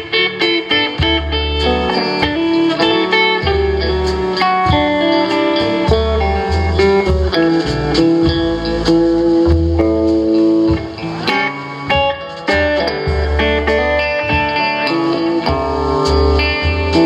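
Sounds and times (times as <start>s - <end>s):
guitar melody: 0.0s - 17.0s
bass line: 1.0s - 17.0s.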